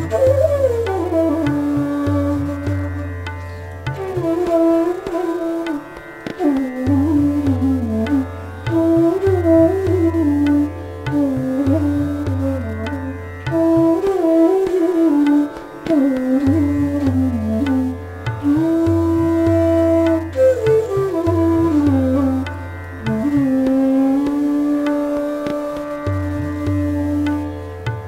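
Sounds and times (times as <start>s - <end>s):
bamboo flute melody: 0.0s - 28.0s
tabla drumming: 0.0s - 28.0s.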